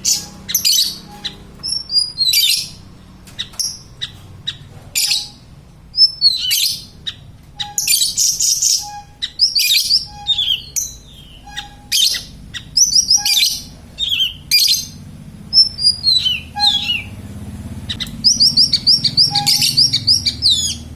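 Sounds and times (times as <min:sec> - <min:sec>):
songbird chirping and whistling: 0:00.0 - 0:17.2, 0:17.9 - 0:20.9.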